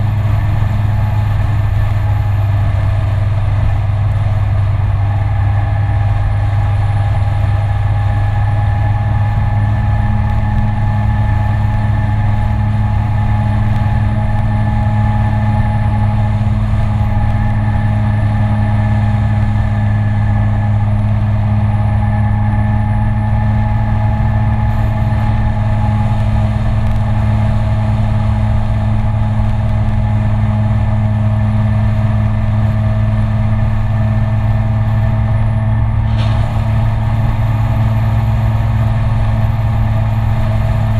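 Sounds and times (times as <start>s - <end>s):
scooter engine droning: 0.0s - 40.9s
wind rumbling on microphone: 0.0s - 40.9s.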